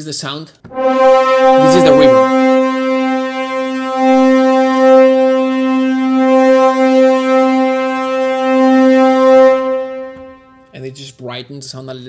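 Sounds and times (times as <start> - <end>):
sampled horn section sustained note: 0.7 - 10.9.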